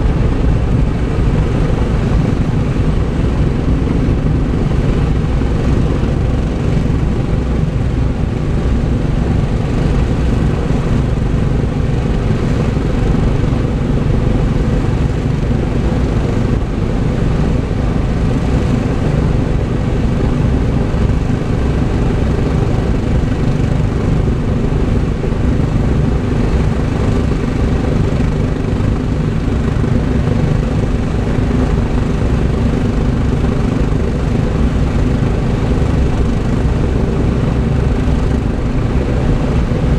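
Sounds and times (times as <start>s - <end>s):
propeller engines droning: 0.0s - 39.9s.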